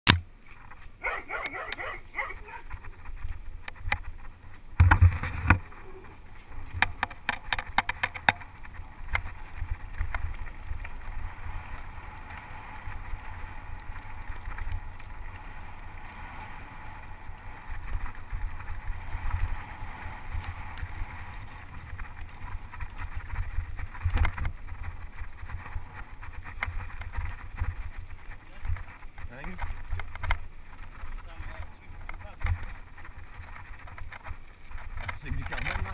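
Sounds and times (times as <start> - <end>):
bike tyre noise on dirt: 0.1 - 35.9
wind rumble on microphone: 0.1 - 35.9.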